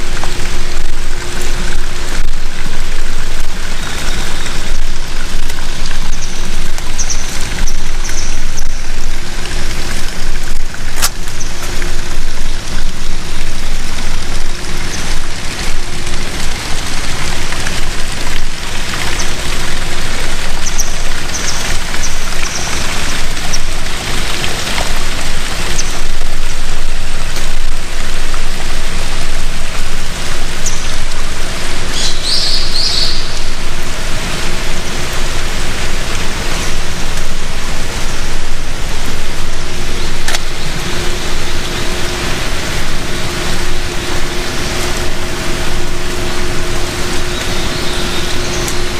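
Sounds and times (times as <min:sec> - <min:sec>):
rushing river water and falls: 0:00.0 - 0:48.9.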